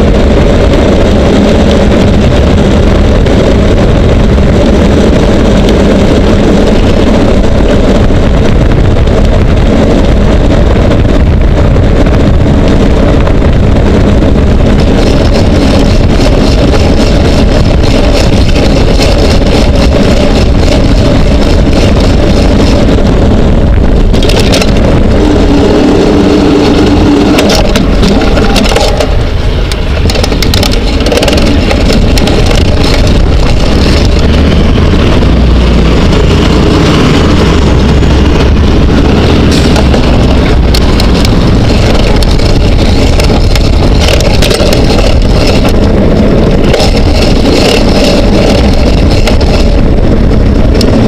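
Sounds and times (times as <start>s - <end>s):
wind and road rumble: 0.0s - 51.0s.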